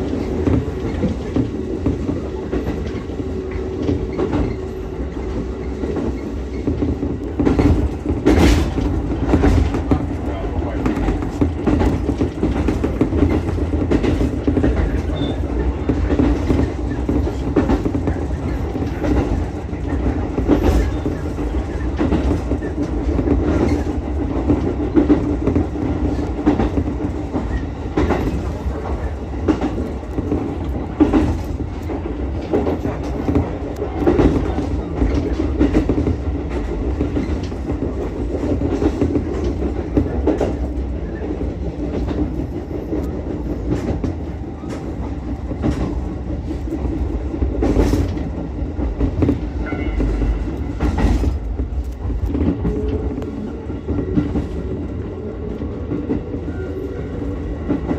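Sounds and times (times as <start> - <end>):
wheels clicking over rail joints: 0.0 - 56.7
wheels rumbling on rail: 0.0 - 57.9.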